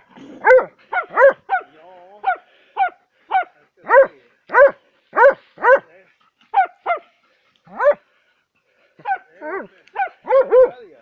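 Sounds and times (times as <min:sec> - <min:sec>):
dog barking: 0:00.4 - 0:05.9, 0:06.5 - 0:08.1, 0:09.0 - 0:10.9.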